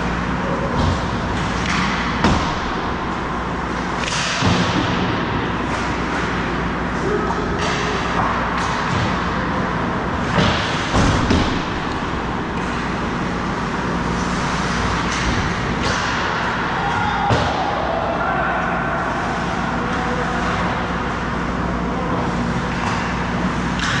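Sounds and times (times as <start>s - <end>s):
hockey sticks and puck clacking: 0.0s - 18.0s, 19.2s - 24.0s.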